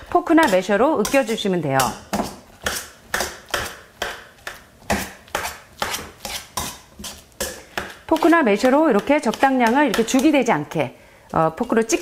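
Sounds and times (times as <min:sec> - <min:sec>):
potato masher knocking metal bowl: 0:00.2 - 0:10.5.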